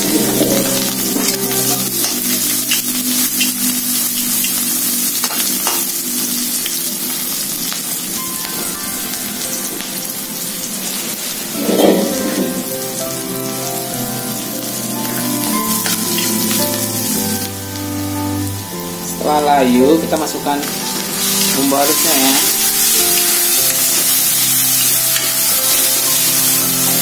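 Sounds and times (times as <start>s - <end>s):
onion sizzling in hot oil: 0.0s - 27.0s.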